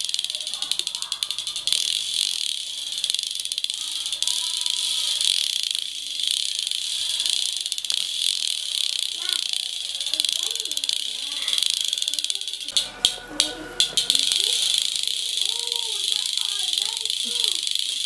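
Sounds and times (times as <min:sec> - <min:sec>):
insects trilling: 0:00.0 - 0:12.8, 0:13.9 - 0:18.0.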